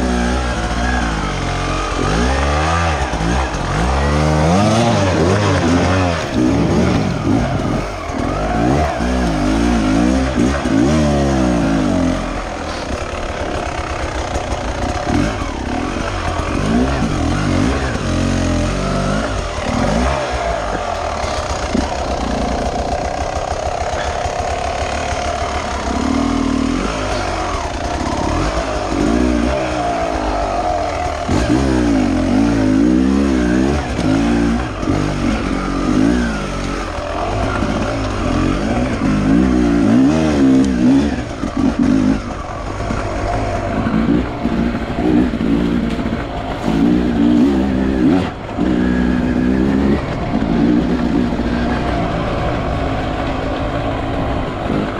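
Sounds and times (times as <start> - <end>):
two-stroke motorcycle engine revving: 0.0 - 54.9.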